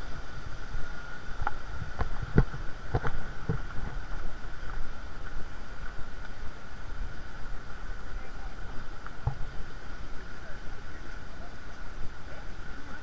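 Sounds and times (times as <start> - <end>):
mountain stream rushing: 0.0 - 13.0
wind rumble on microphone: 0.0 - 13.0.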